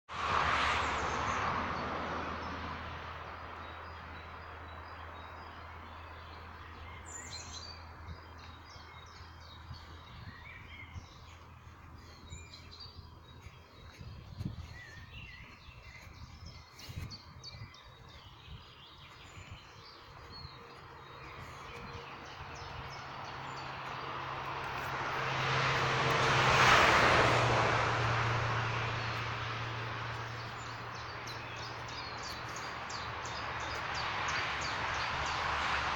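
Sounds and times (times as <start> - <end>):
vehicle passing: 0.1 - 35.9
small birds chirping: 3.3 - 35.5.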